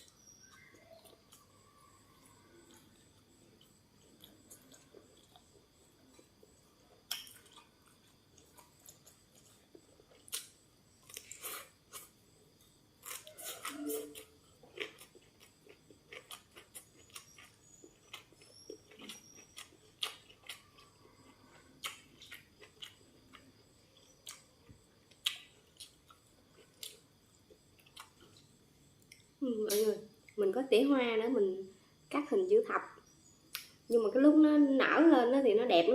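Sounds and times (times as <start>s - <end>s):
person chewing crunchy food: 0.0s - 29.3s.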